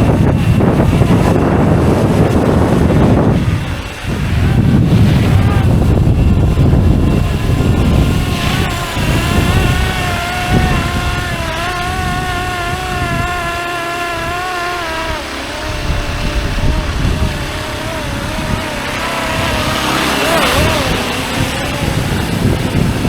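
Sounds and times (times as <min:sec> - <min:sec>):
rc helicopter rotors whining: 0:00.0 - 0:23.0
wind buffeting microphone: 0:00.0 - 0:23.0.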